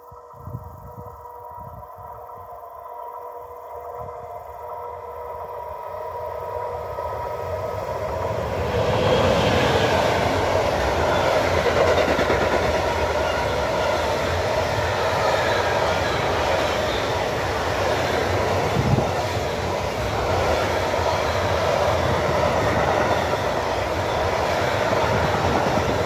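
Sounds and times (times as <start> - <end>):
freight train wheels rumbling: 3.8 - 26.0.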